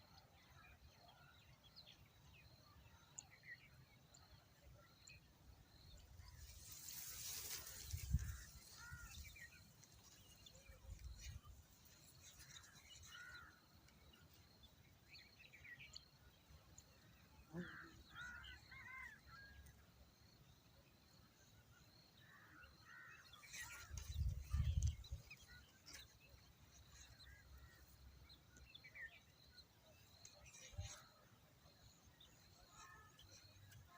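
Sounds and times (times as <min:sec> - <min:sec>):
faint bird chirps: 0:00.0 - 0:33.9.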